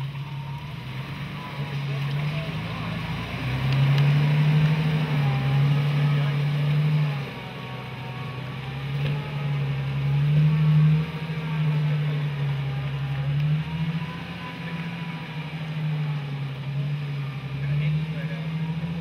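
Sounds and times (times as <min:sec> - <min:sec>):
engine running at low revs: 0:00.0 - 0:19.0.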